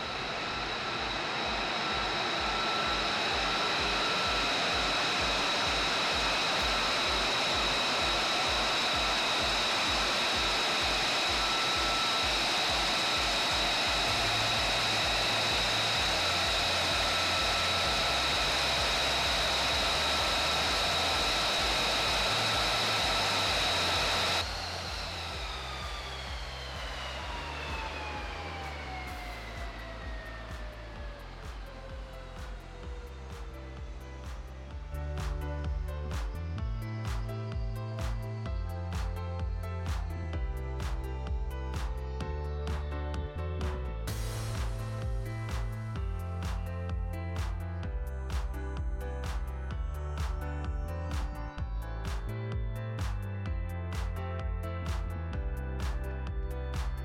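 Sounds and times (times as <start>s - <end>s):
jet engine whine: 0.0s - 57.0s
music with low beat and bassline: 0.0s - 57.0s.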